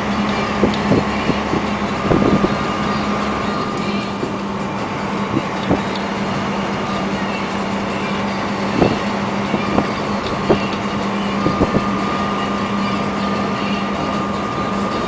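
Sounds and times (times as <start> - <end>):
cab rattles: 0.0 - 15.0
truck engine hum: 0.0 - 15.0
tyre and road noise: 0.0 - 15.0.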